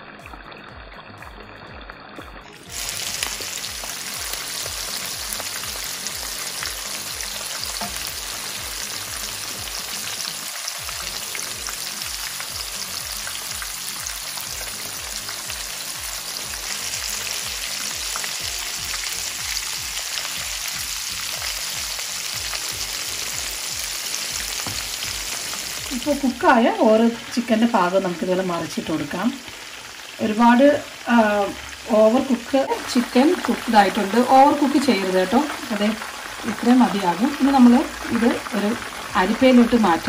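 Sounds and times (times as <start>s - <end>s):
chicken frying in hot oil: 0.0s - 40.0s.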